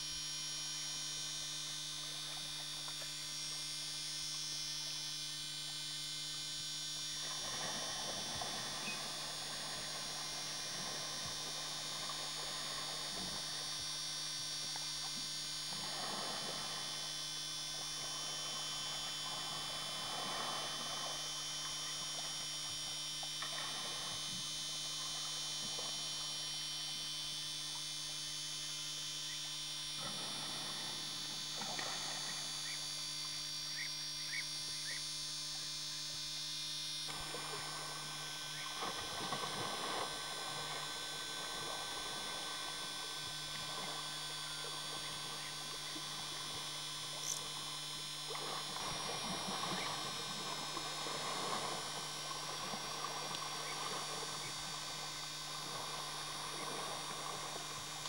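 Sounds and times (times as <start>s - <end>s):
electrical hum with high whine: 0.0s - 58.0s.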